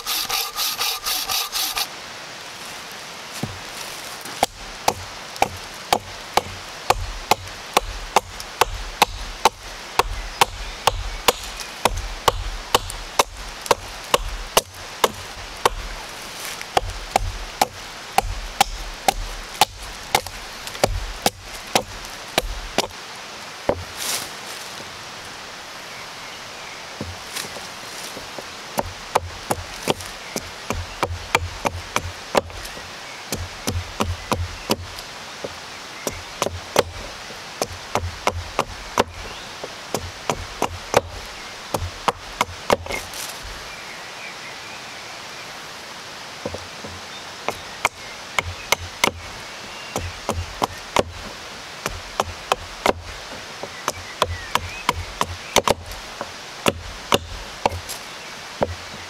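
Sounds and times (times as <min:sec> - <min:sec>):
hatchet chopping wood: 0:00.0 - 0:01.9, 0:04.4 - 0:23.0, 0:28.2 - 0:43.6, 0:46.5 - 0:58.0, 0:58.6 - 0:59.0.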